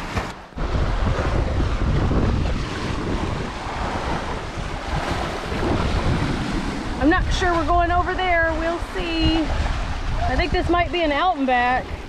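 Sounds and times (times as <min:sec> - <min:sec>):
waves splashing against rock: 0:00.0 - 0:12.0
wind rumble on microphone: 0:00.0 - 0:12.0.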